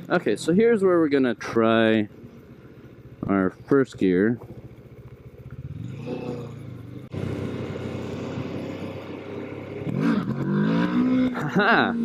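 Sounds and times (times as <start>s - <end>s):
motorcycle engine revving: 1.8s - 12.0s.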